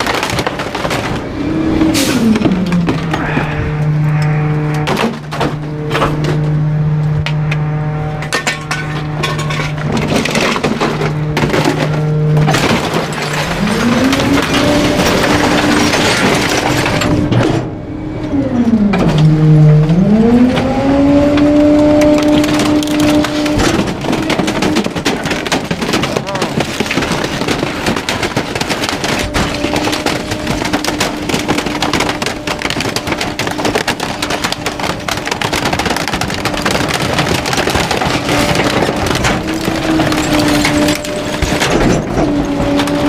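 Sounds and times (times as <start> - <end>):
items cracking as crushed: 0.0 - 7.6, 8.2 - 17.7, 18.8 - 43.0
garbage truck engine revving: 0.0 - 43.0.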